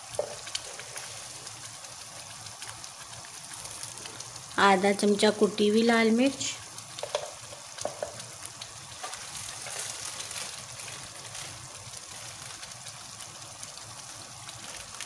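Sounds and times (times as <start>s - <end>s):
paste sizzling in oil: 0.0s - 15.0s.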